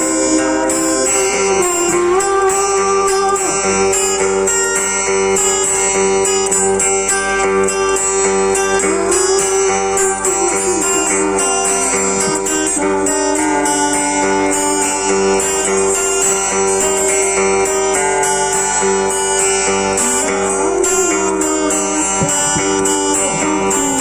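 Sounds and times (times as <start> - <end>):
guitar plucked and strummed: 0.0 - 24.0.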